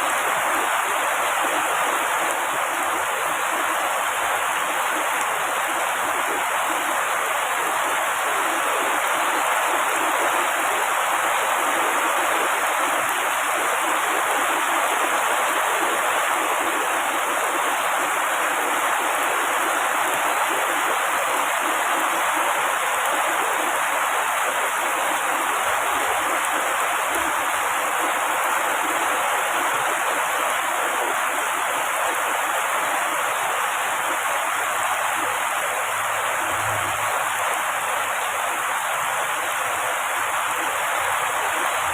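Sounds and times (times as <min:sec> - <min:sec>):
heavy rain on foliage: 0:00.0 - 0:41.9.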